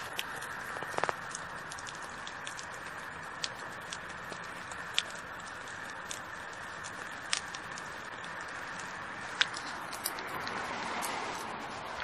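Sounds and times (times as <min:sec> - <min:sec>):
cluster of clicks: 0:00.0 - 0:11.5
drip-like ticks: 0:00.0 - 0:12.0
steady rain: 0:00.0 - 0:12.0.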